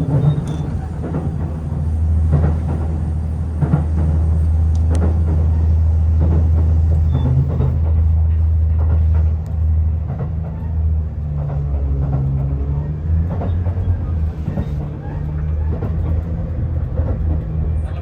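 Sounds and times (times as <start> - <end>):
train interior hum and rumble: 0.0 - 18.0.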